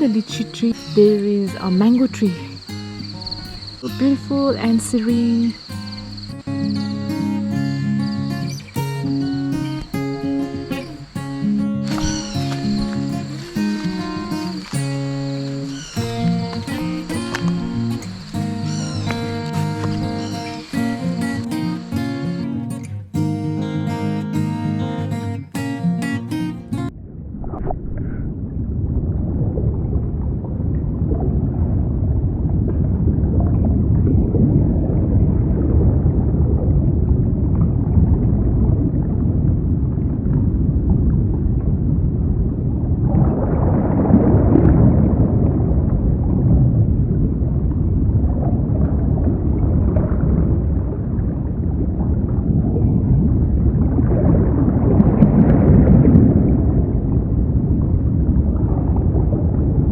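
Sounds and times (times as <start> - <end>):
underwater rumble and gurgling: 1.6 - 21.6, 26.7 - 59.9.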